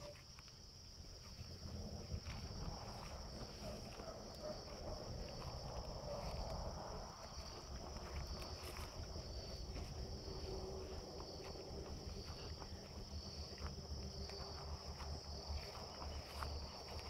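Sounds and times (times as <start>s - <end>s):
insects chirring: 0.0s - 17.0s
soft steps through grass: 0.3s - 17.0s.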